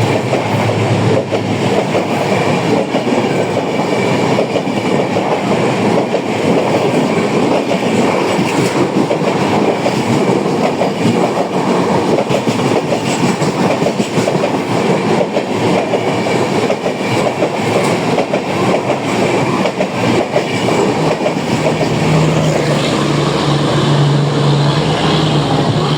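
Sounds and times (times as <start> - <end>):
train rushing and rattling: 0.0 - 25.9
wheels clacking over rail joints: 0.0 - 25.9.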